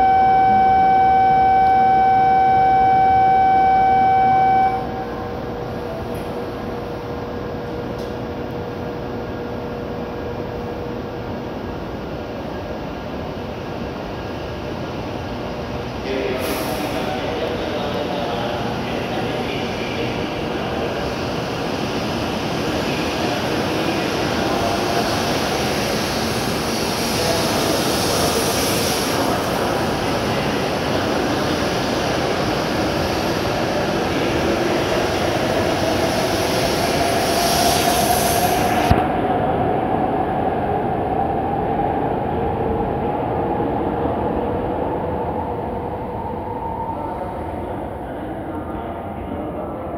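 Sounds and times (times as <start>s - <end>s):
train rolling noise: 0.0s - 49.9s.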